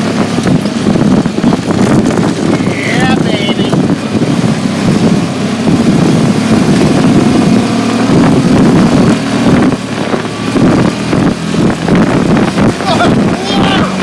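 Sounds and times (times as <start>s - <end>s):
atv engine running: 0.0s - 14.0s
wind buffeting microphone: 0.0s - 14.0s.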